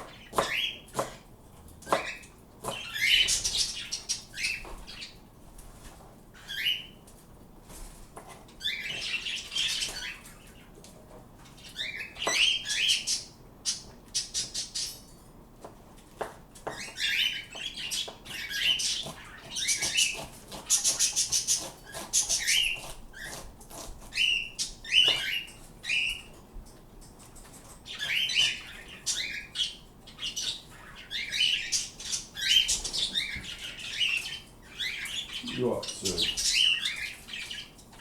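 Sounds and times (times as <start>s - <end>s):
birds chirping: 0.0s - 5.3s, 6.3s - 7.1s, 8.6s - 15.3s, 16.6s - 38.0s.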